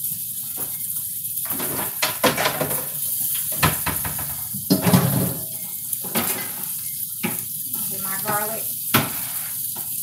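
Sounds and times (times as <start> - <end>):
chicken sizzling in oil: 0.0 - 10.0
pots and utensils clattering: 0.5 - 10.0.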